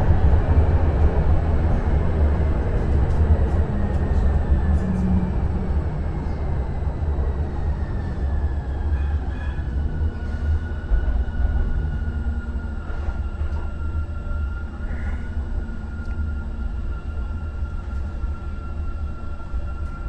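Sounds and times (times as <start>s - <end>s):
light-rail car riding rails: 0.0s - 20.0s.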